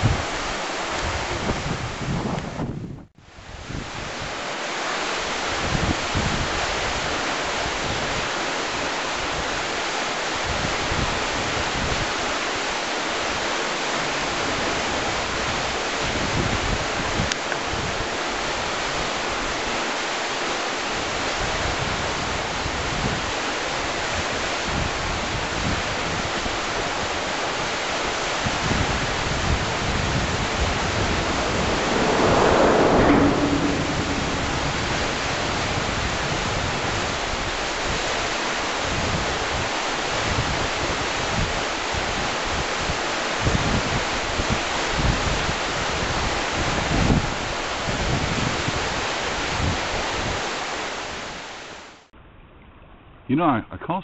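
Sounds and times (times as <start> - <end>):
wind buffeting microphone: 0.0 - 4.4, 5.4 - 9.6, 13.2 - 19.7, 20.9 - 51.8.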